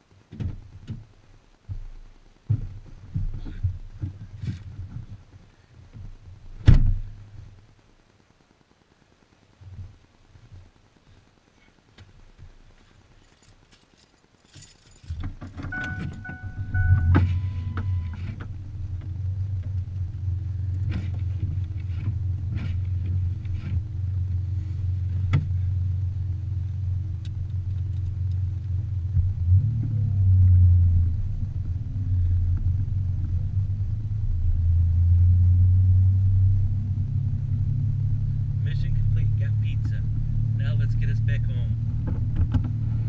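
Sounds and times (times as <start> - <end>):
car engine rumbling: 0.0 - 8.2, 9.5 - 43.0.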